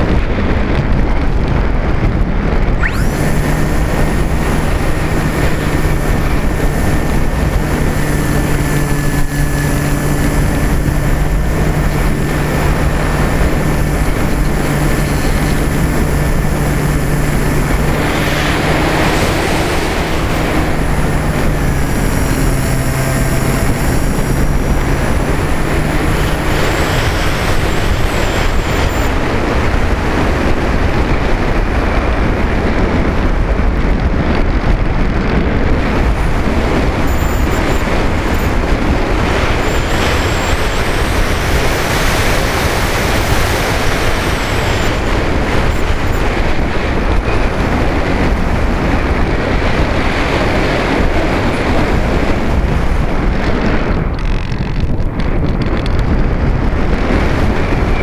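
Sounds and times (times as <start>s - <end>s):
wind rush on microphone: 0.0s - 58.0s
model aircraft motor droning: 2.6s - 33.1s, 35.0s - 58.0s.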